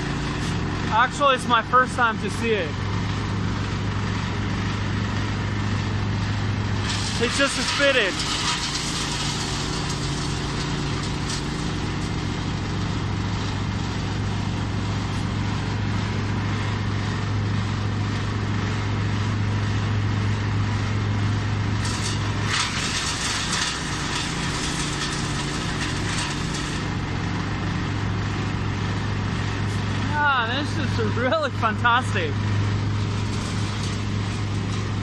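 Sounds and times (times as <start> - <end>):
wood chipper shredding branches: 0.0 - 35.0.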